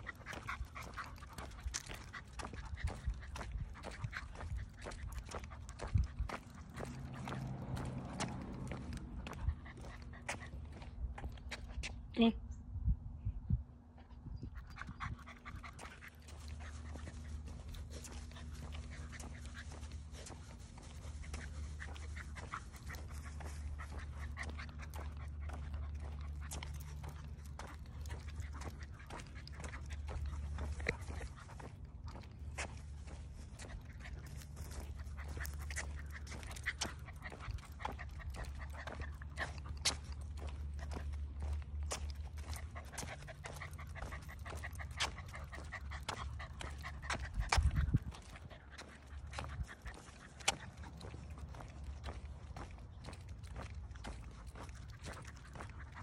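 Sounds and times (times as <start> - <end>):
puppy panting: 0.0 - 11.9, 14.3 - 56.0
steady low rumble: 0.0 - 56.0.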